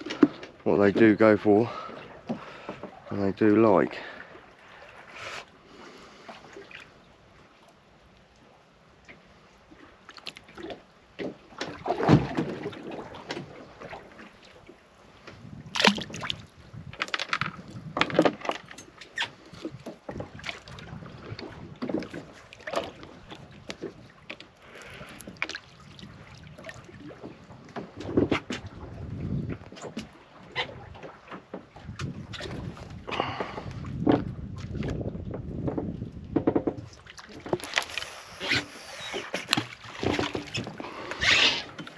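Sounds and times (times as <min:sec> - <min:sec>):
water sloshing against boat hull: 0:00.0 - 0:41.9.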